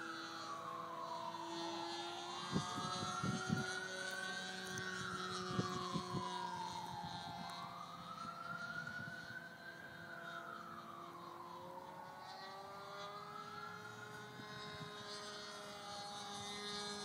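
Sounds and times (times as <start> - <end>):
model airplane motor whine: 0.0 - 17.0.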